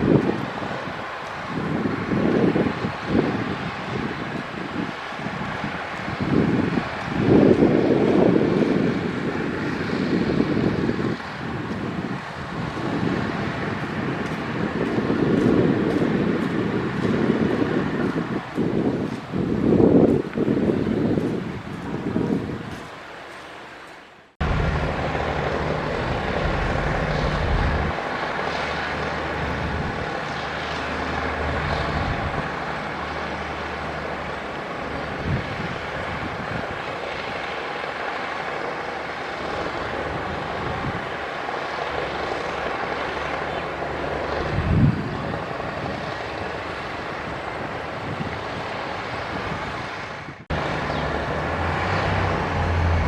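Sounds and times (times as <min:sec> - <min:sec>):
diesel machinery engine drone: 0:00.0 - 0:23.6, 0:24.4 - 0:53.0.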